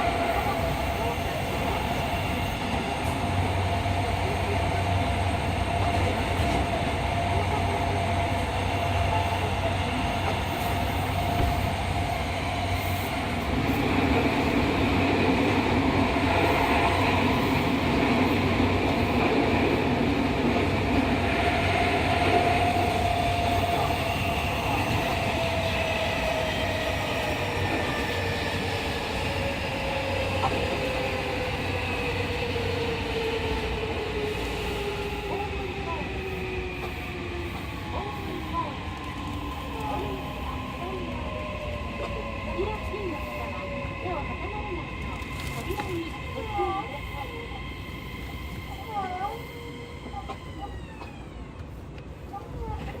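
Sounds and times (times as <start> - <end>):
train motor and inverter tones: 0.0 - 53.0
train wheel running noise: 0.0 - 53.0.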